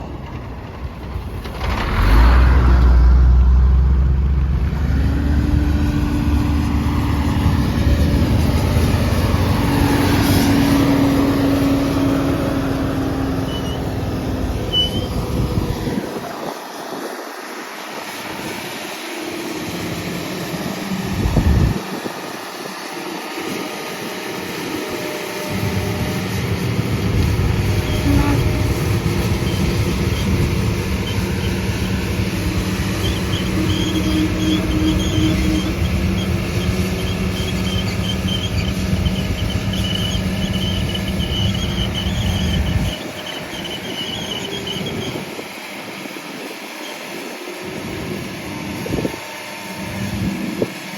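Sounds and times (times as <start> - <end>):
excavator engine rumbling: 0.0 - 50.9
steady whine: 3.3 - 46.5.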